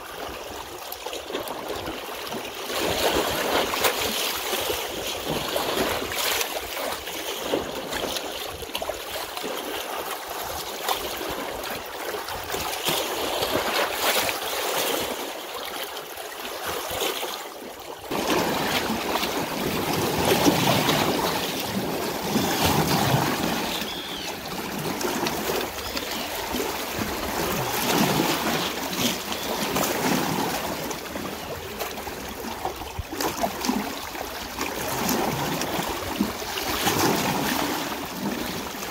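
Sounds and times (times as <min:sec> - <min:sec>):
water flowing and splashing: 0:00.0 - 0:38.9.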